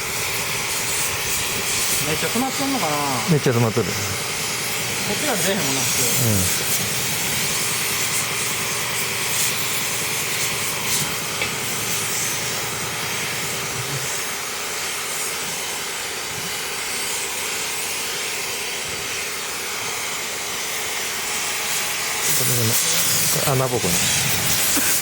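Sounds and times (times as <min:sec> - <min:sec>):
air hissing through exhaust silencer: 0:00.0 - 0:25.0.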